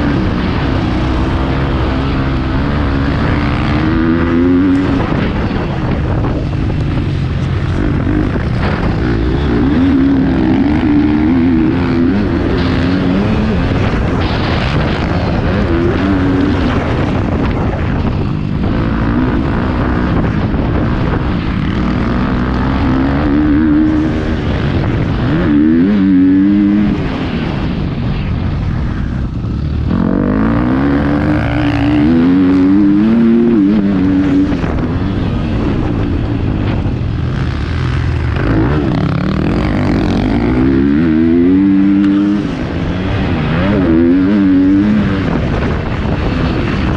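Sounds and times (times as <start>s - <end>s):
motocross bike engine revving: 0.0s - 27.8s, 28.7s - 46.9s.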